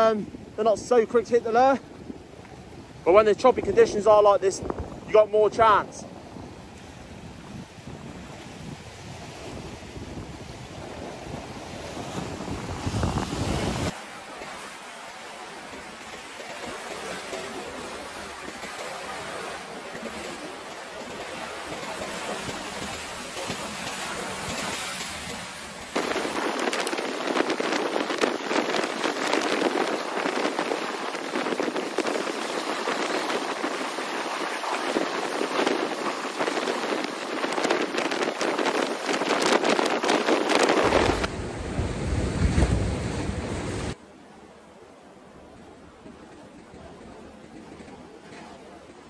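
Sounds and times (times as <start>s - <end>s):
wind on microphone: 0.0s - 14.0s, 16.7s - 44.0s
sea waves splashing over rocks: 0.0s - 44.0s.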